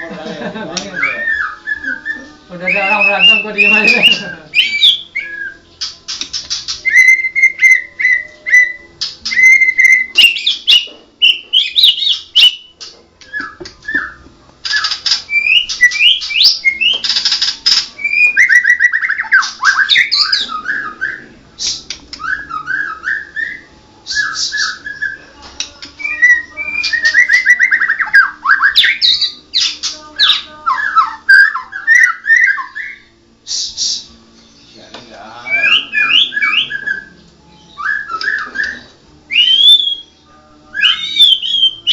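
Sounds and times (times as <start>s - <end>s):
harsh rasping bird notes: 0.6s - 41.9s
bird singing fluty whistled phrases: 0.8s - 5.8s, 6.8s - 25.3s, 26.0s - 34.2s, 35.4s - 41.9s.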